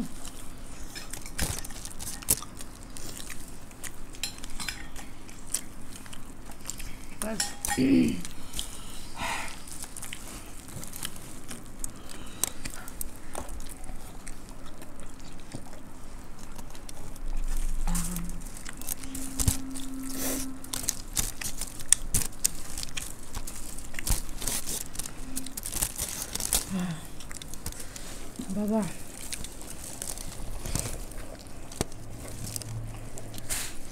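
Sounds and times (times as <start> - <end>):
crunchy bites and chewing: 0.0 - 33.9
fingers mixing puffed rice: 0.0 - 33.9.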